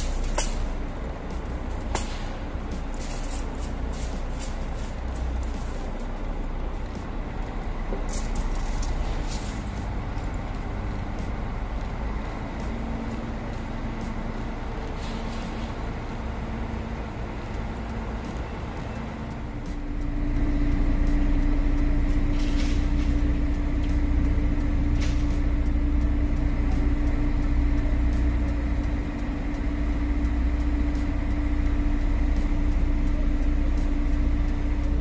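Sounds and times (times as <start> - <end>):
crane diesel engine rumbling: 0.0 - 35.0.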